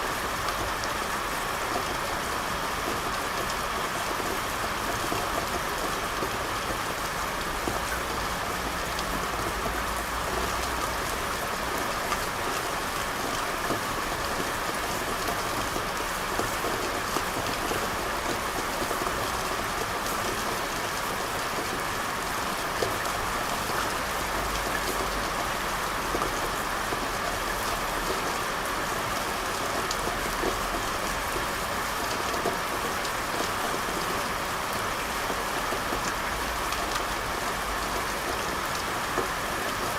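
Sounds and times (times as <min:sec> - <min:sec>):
rain on street: 0:00.0 - 0:39.9.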